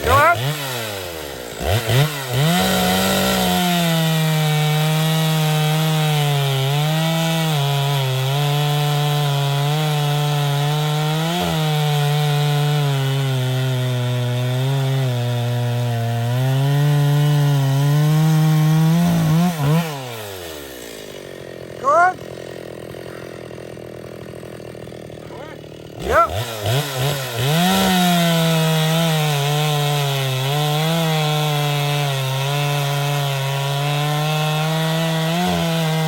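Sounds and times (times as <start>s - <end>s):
chainsaw cutting through wood: 0.0s - 36.0s.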